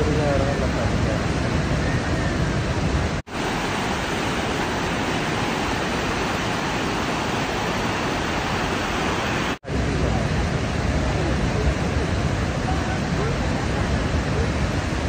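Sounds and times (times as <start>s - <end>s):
waterfall and rapids roaring: 0.0s - 15.0s.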